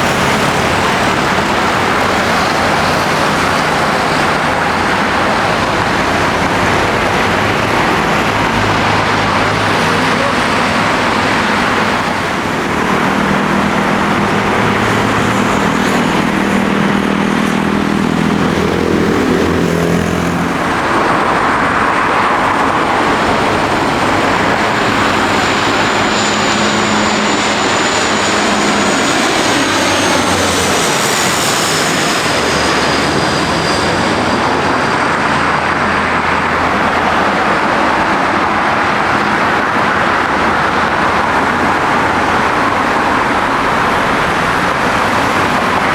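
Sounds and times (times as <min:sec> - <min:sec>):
turboprop aircraft passing: 0:00.0 - 0:45.9.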